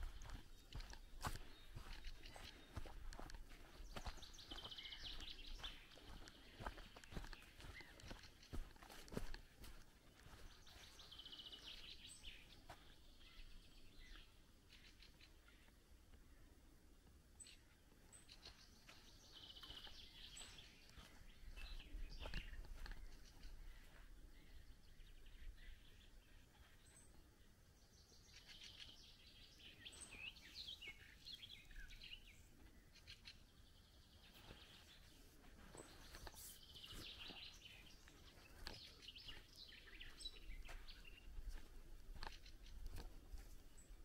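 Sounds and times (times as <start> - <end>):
faint songbird chirping: 0.0 - 44.0.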